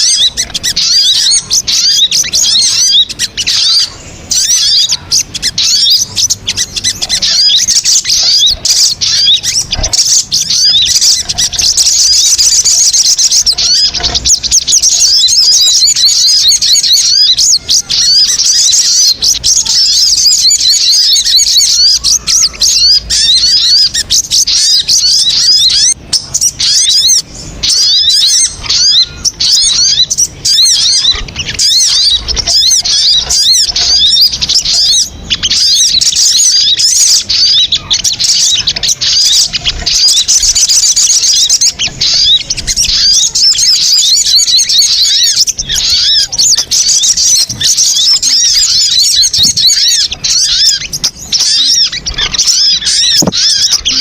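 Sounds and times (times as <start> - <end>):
bird twittering rapidly: 0.0 - 54.0.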